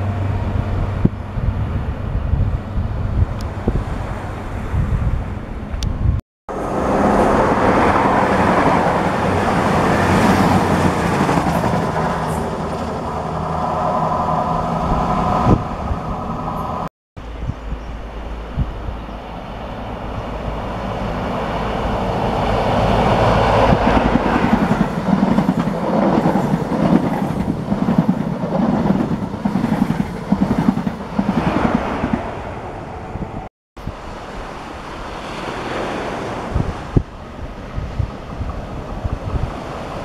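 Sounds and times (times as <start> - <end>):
train engine hum: 0.0 - 40.0
train power car passing: 6.5 - 33.5, 34.1 - 40.0.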